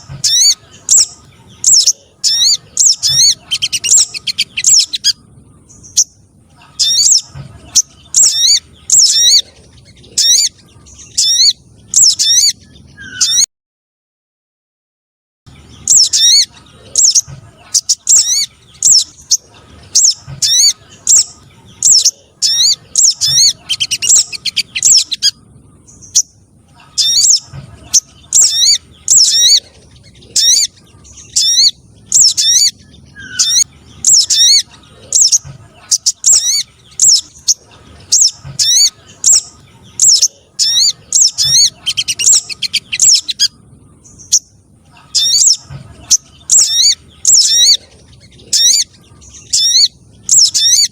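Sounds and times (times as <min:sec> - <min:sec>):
songbird high chirps: 0:00.0 - 0:13.5, 0:15.5 - 0:50.9.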